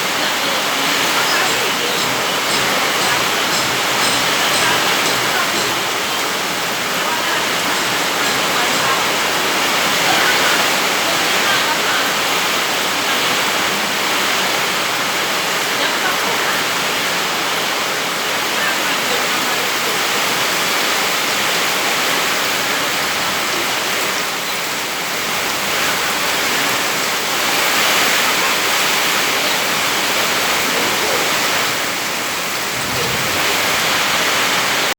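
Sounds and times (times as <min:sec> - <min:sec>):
heavy rain in strong wind: 0:00.0 - 0:34.9.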